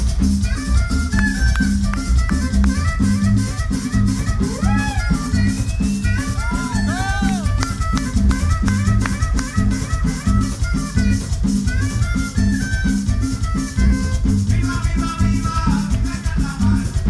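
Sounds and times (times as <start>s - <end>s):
congas: 0.0s - 17.0s
salsa band playing: 0.0s - 17.0s
trumpet melody: 0.3s - 16.4s.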